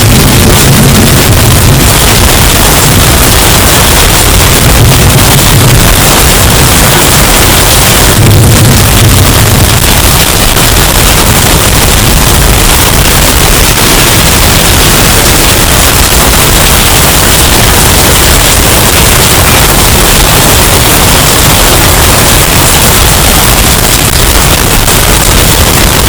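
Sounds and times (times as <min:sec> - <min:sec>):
distorted hurricane wind: 0:00.0 - 0:26.0.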